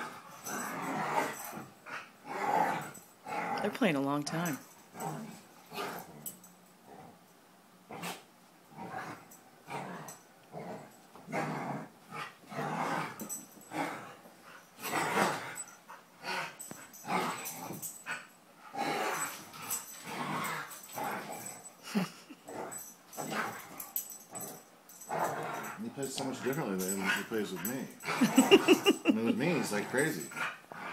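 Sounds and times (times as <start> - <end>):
dogs play growling: 0.0 - 3.7, 4.4 - 30.9.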